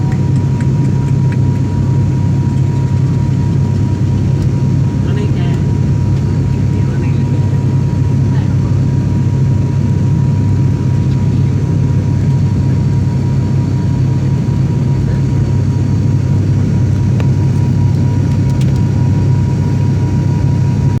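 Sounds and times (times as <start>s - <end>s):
low rumble of engines and airflow: 0.0s - 21.0s.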